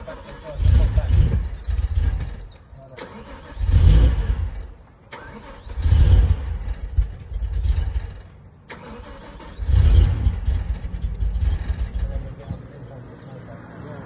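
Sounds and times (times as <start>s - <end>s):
car engine cranking and misfiring: 0.0s - 12.5s.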